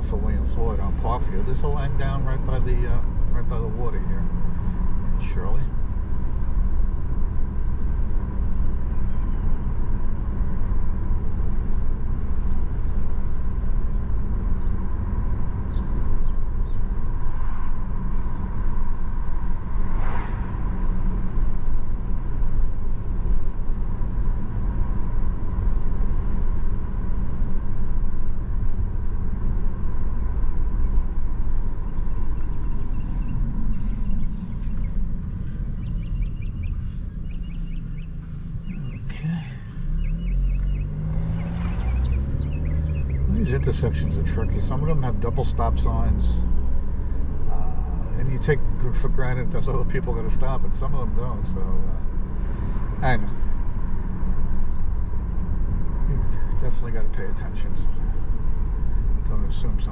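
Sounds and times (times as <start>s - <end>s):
car road noise from inside: 0.0s - 59.9s.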